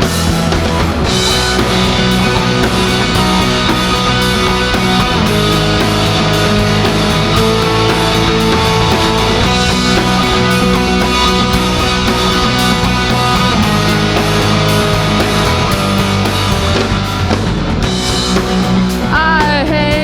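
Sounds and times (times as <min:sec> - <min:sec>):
electric guitars sustained chords: 0:00.0 - 0:19.8
bass guitar: 0:00.0 - 0:20.0
drum kit steady beat: 0:00.0 - 0:20.0.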